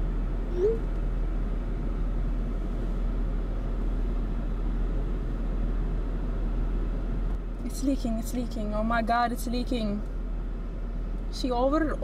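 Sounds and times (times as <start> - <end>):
car engine rumble inside cabin: 0.0 - 12.0.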